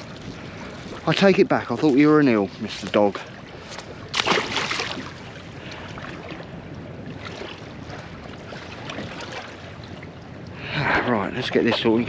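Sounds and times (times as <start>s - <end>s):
water lapping around boat: 0.0s - 12.0s
wind buffeting microphone: 0.0s - 12.0s.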